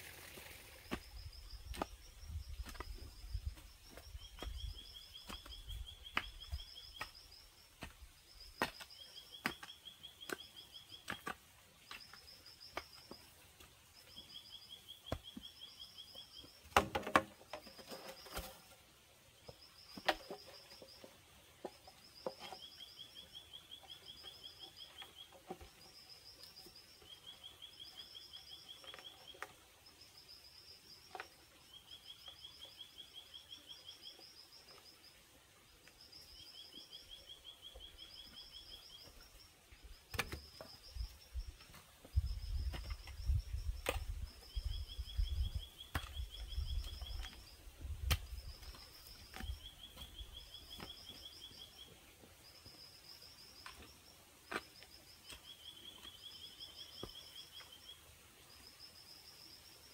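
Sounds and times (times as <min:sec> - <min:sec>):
hands knocking and scraping soil: 0:00.0 - 0:18.8, 0:19.4 - 0:30.3, 0:37.8 - 0:51.8, 0:52.4 - 0:57.7.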